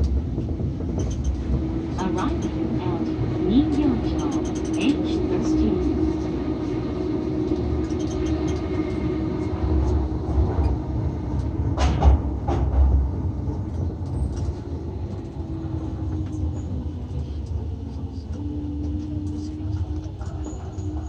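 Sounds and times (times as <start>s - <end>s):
constant hum: 0.0s - 21.0s
train wheels rumbling: 0.0s - 21.0s.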